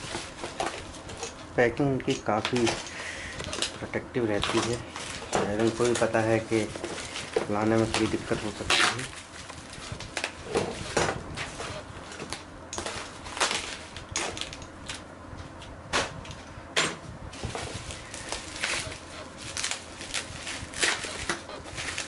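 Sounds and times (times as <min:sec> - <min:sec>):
bubble wrap and cardboard crinkling: 0:00.0 - 0:15.0, 0:17.3 - 0:22.0.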